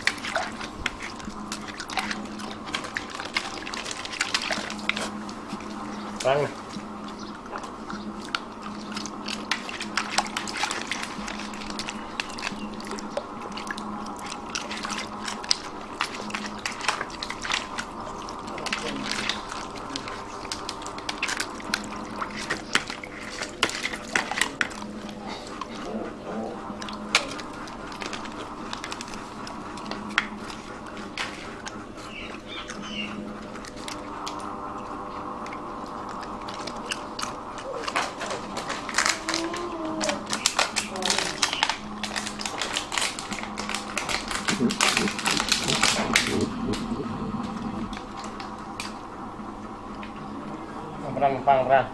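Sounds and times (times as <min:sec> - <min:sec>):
dogs chewing and crunching: 0:00.0 - 0:51.9
steady background hum: 0:00.0 - 0:51.9.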